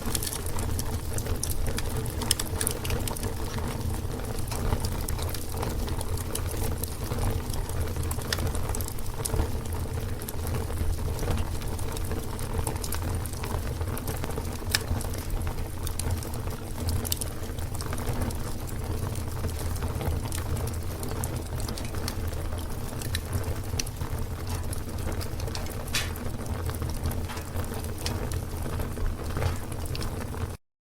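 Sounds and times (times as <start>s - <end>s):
fire burning with low rumble: 0.0s - 30.6s
fire crackles and pops: 0.0s - 30.6s.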